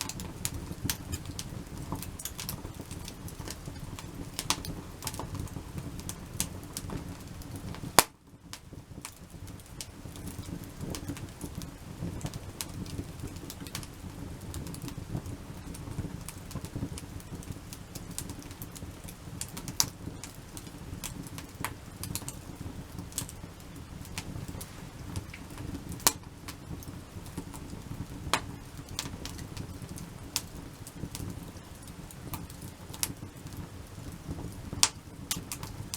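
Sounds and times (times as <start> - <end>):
campfire crackling and popping: 0.0 - 35.9
campfire flame rushing: 0.0 - 35.9.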